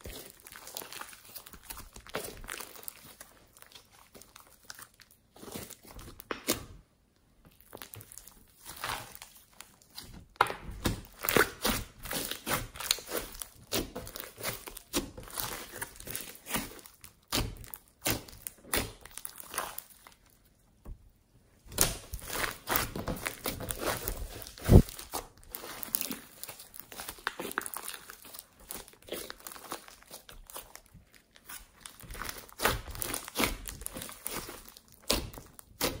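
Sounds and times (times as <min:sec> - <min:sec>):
slime popping and crackling: 0:00.0 - 0:06.8, 0:07.5 - 0:20.4, 0:21.7 - 0:36.0.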